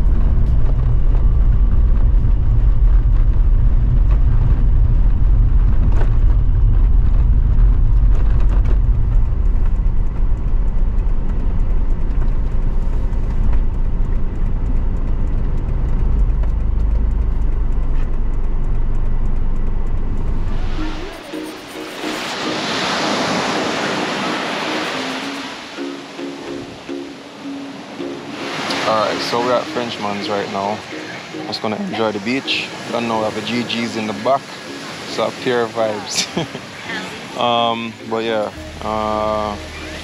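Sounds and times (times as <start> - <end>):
van engine and tyres rumbling: 0.0 - 40.0.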